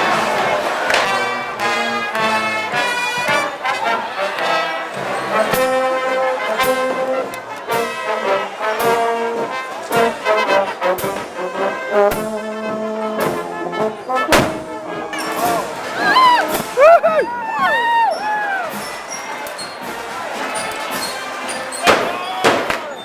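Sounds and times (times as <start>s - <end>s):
brass band playing: 0.0s - 22.7s.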